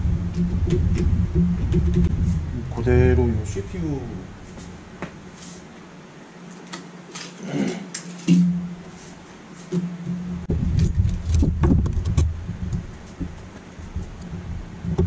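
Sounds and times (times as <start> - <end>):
low hum: 0.0 - 6.6, 7.4 - 15.0.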